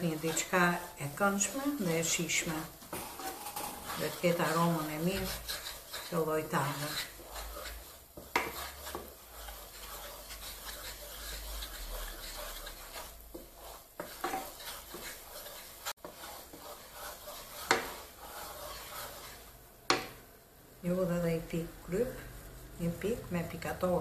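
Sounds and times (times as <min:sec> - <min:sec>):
wooden spatula scraping pan: 0:00.0 - 0:20.2
butter sizzling: 0:00.0 - 0:20.4.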